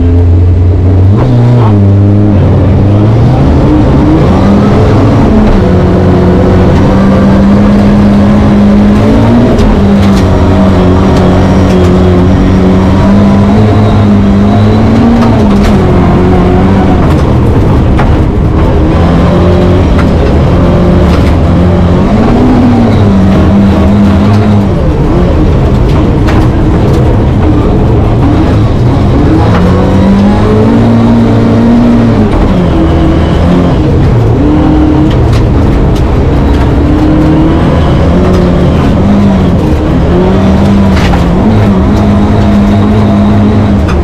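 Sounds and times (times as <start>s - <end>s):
rally car engine revving: 0.0s - 44.0s.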